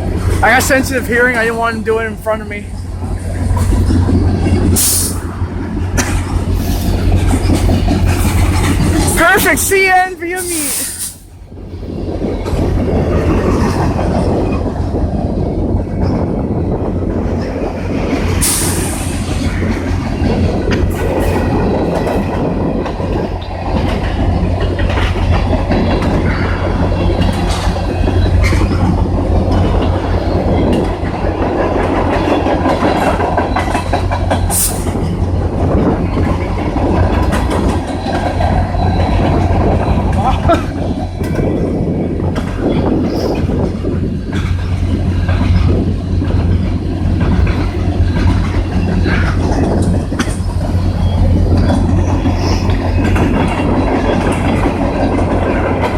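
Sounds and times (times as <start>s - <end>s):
train wheels rumbling on rail: 0.0s - 55.9s
wheels clacking over rail joints: 0.0s - 55.9s.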